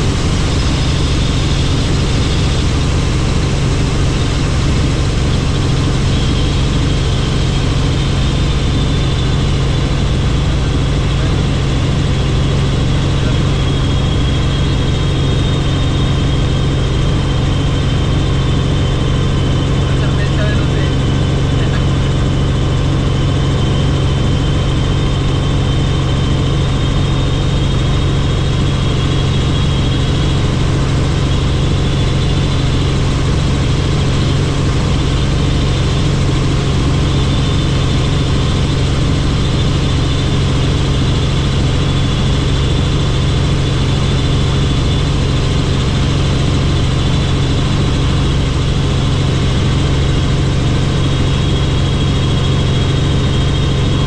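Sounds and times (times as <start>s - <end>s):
faint high whine: 0.0s - 54.0s
helicopter rotor drone: 0.0s - 54.0s.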